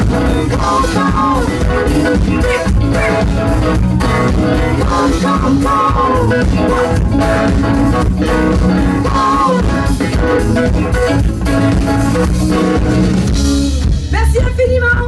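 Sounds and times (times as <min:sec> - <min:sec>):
live funk band playing: 0:00.0 - 0:15.0
steady drum beat: 0:00.0 - 0:15.0.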